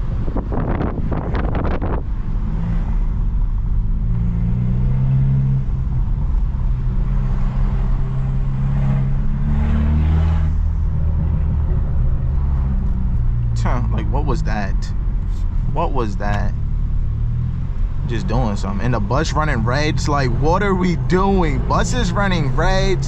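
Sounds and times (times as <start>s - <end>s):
exhaust crackling and popping: 0.0s - 4.3s, 5.6s - 9.5s, 10.4s - 23.0s
exhaust drone: 0.0s - 23.0s.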